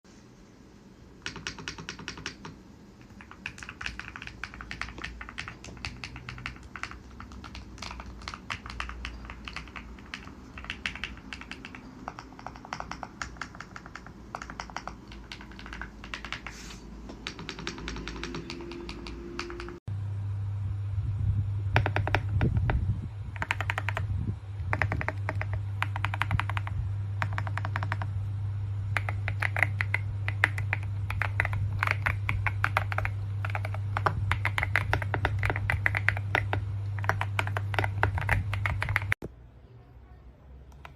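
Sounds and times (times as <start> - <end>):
steady low hum: 0.1 - 40.9
mechanical keyboard typing: 1.2 - 19.8, 21.7 - 28.2, 28.9 - 39.2.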